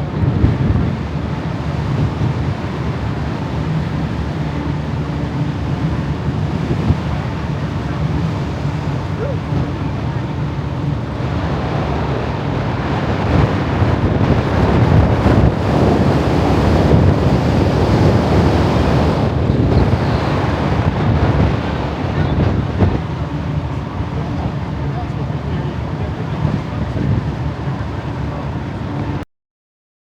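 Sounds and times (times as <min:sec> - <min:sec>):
ferry engine drone: 0:00.0 - 0:29.2
wind buffeting microphone: 0:00.0 - 0:29.2.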